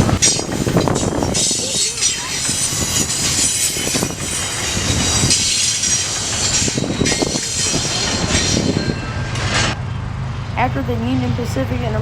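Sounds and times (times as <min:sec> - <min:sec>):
freight cars clattering over rail joints: 0:00.0 - 0:10.0
high squeal from train wheels: 0:00.0 - 0:10.6.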